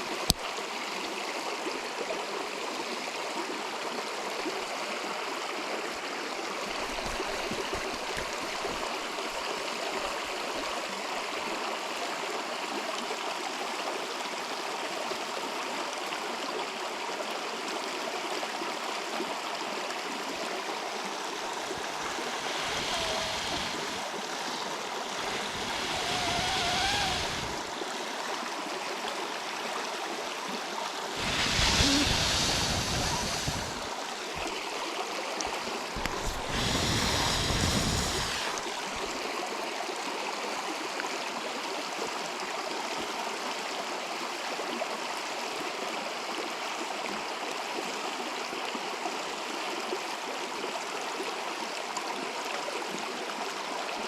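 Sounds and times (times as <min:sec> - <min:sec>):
river flowing: 0:00.0 - 0:45.7.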